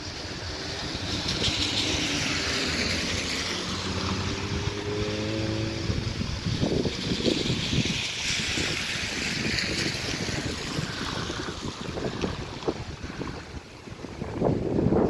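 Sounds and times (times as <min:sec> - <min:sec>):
car engine: 0:00.0 - 0:13.7
tyres hissing on wet road: 0:00.0 - 0:15.0.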